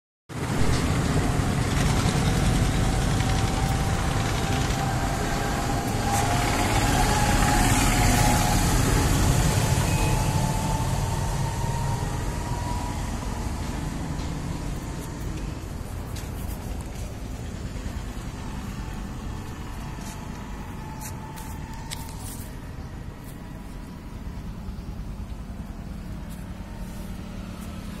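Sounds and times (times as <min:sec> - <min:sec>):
tractor diesel engine running: 0:00.3 - 0:28.0
faint whine rising in pitch: 0:00.5 - 0:28.0.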